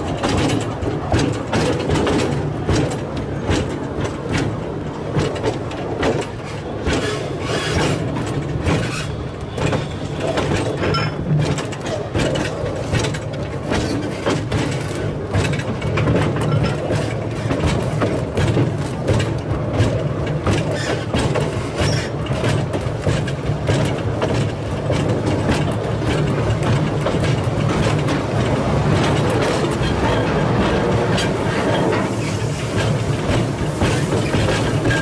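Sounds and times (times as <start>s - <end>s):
train carriage rumbling: 0.0s - 35.0s
train wheels clattering on track: 0.0s - 35.0s.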